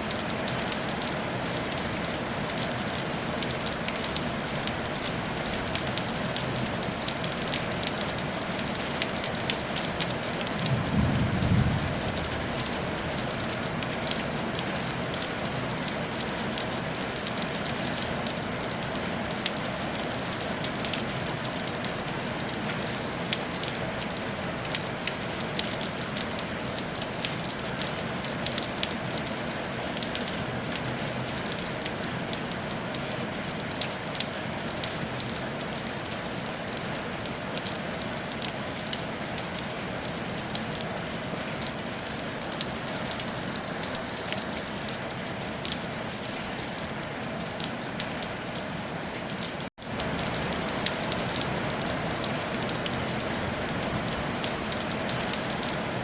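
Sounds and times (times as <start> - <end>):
rain on a tile roof: 0.0 - 56.0.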